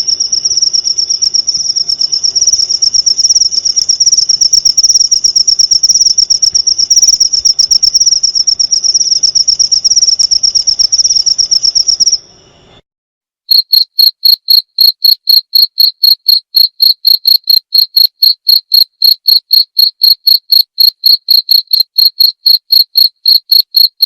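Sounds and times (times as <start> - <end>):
cricket fast pulsing trill: 0.0 - 12.8, 13.5 - 24.0
cricket slow low chirps: 0.0 - 12.8, 13.5 - 24.0.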